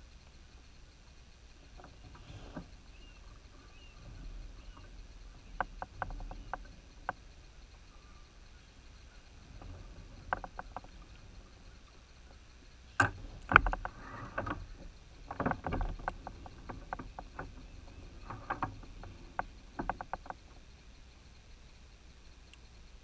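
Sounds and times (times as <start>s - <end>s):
gear knocking and clicking: 1.5s - 20.9s.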